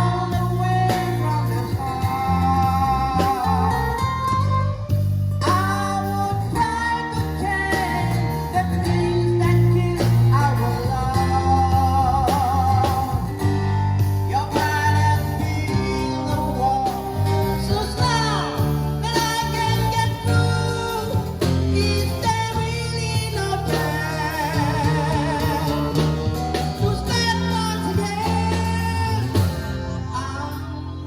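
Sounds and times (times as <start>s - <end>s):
guitar: 0.0s - 31.0s
man singing with vibrato: 0.0s - 31.0s
steady bass line: 0.0s - 31.0s.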